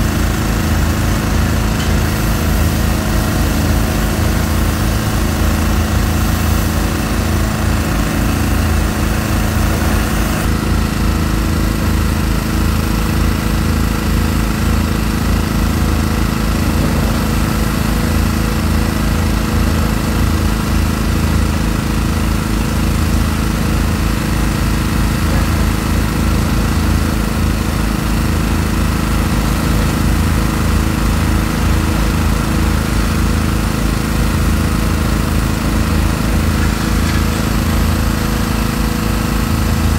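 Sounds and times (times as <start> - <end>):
demolition excavator engine drone: 0.0 - 39.9.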